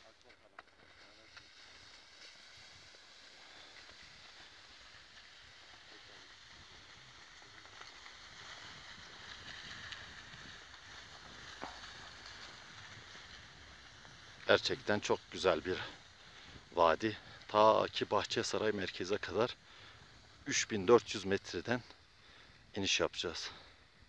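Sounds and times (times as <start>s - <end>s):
skis sliding over snow: 0.0s - 23.8s.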